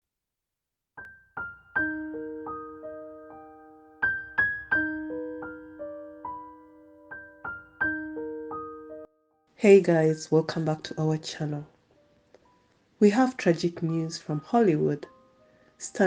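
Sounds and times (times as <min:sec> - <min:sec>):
slow piano notes and chords: 0:01.0 - 0:09.3, 0:10.0 - 0:15.8.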